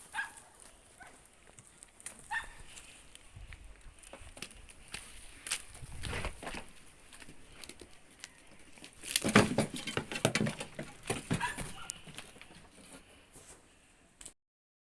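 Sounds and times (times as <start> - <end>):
goats moving about: 0.0 - 13.8.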